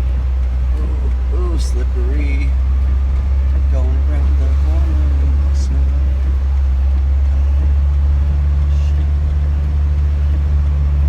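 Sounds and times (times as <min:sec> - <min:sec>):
higher hum: 0:00.0 - 0:11.0
truck engine and road drone: 0:00.0 - 0:11.0.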